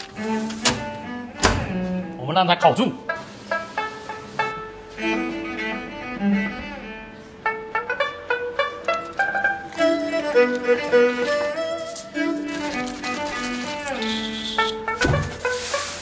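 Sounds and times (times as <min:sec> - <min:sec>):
plucked string notes: 0:02.8 - 0:16.0
bowed strings light tune: 0:02.9 - 0:16.0.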